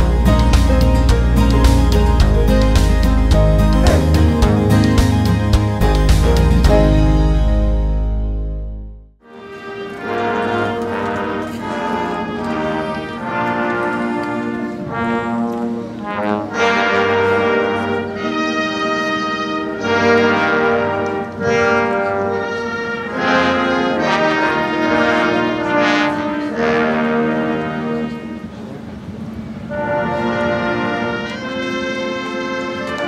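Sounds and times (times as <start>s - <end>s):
brass ensemble playing chords: 0.0s - 28.8s, 29.6s - 33.0s.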